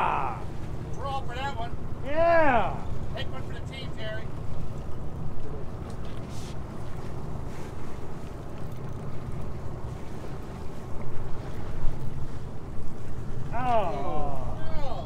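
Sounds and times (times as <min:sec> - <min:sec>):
sea and boat noise: 0:00.0 - 0:15.0.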